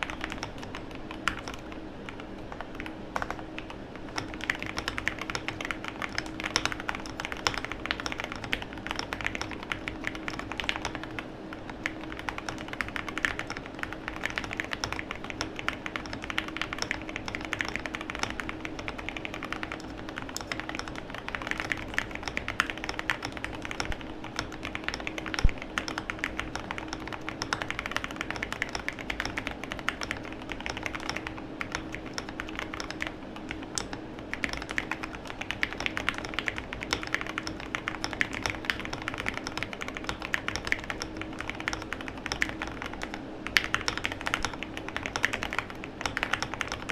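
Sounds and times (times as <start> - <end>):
faint steady hum: 0.0 - 46.9
mechanical keyboard typing: 0.0 - 46.9.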